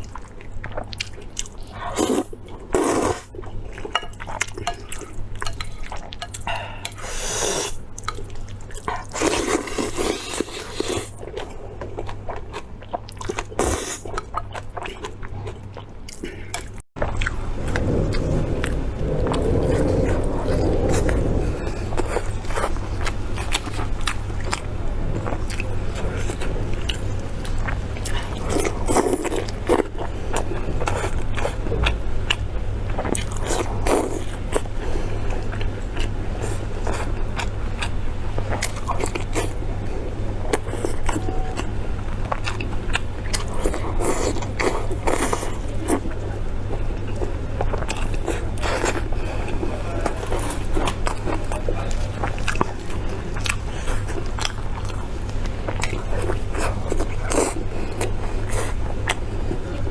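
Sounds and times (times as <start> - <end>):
chewing and biting food: 0.0 - 59.9
steady low hum: 0.0 - 59.9.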